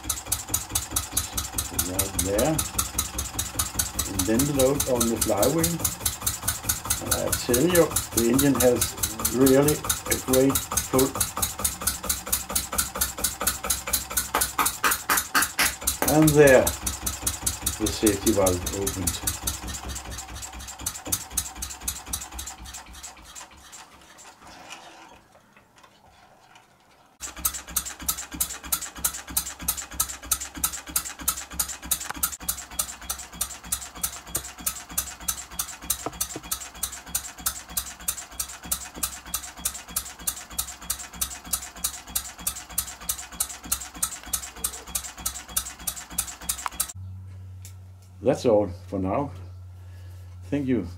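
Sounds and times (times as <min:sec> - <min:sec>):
small diesel engine beating: 0:00.0 - 0:23.8, 0:27.2 - 0:48.0.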